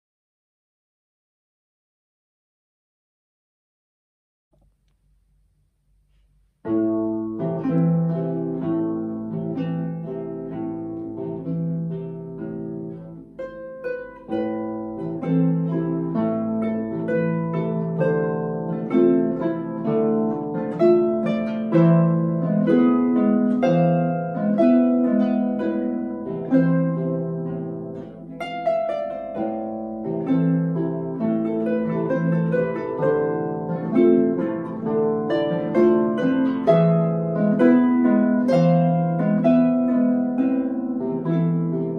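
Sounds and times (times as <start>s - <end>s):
harps playing a duet: 6.6s - 41.9s.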